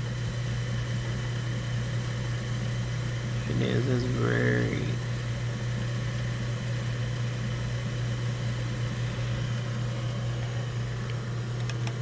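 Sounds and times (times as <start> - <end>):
drill press motor humming: 0.0 - 12.0.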